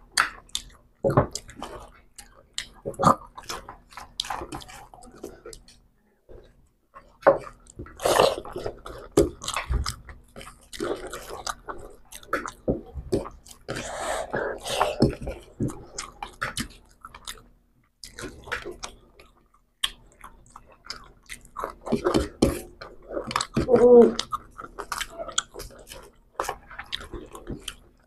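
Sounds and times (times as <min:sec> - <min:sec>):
people chewing and eating: 0:00.0 - 0:28.0.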